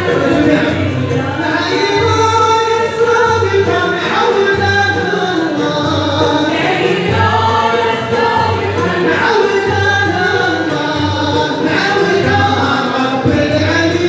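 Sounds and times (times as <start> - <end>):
voices singing together: 0.0 - 14.0.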